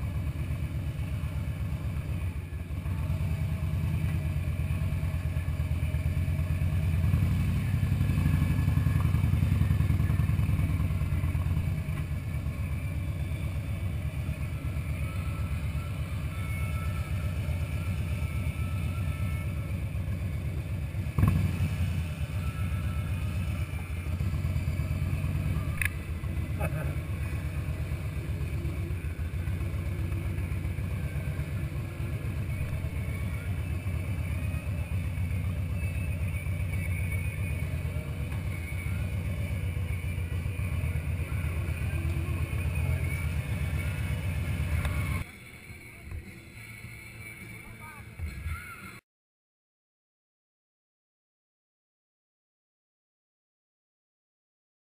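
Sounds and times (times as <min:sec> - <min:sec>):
motorcycle engine running: 0:00.0 - 0:47.4.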